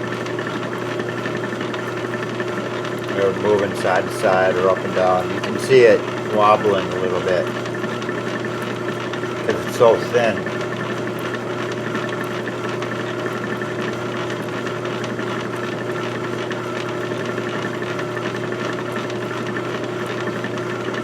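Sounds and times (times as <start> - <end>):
small electric drill running: 0.0 - 21.0.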